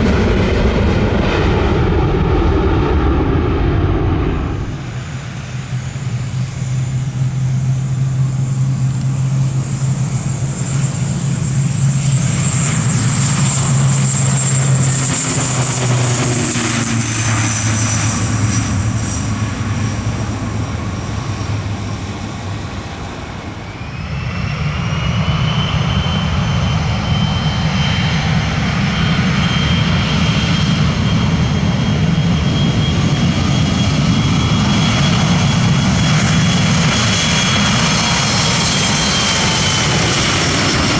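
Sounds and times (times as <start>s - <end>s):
jet engines whining at takeoff: 0.0s - 40.9s
turboprop propeller drone: 0.0s - 40.9s.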